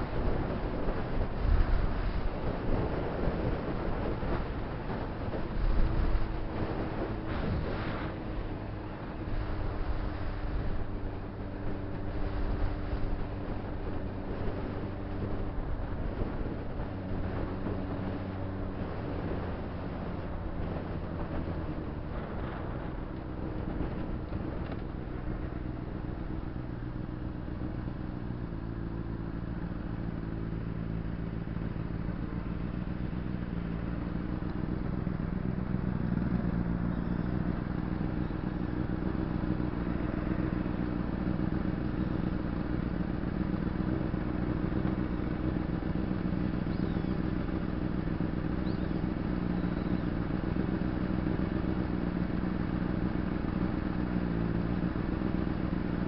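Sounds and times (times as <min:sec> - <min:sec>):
motorcycle engine slowing and idling: 0:00.0 - 0:56.0.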